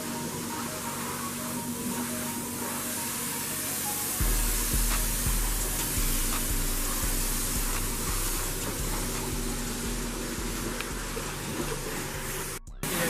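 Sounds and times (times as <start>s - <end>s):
pressure washer spraying water: 0.0s - 13.0s.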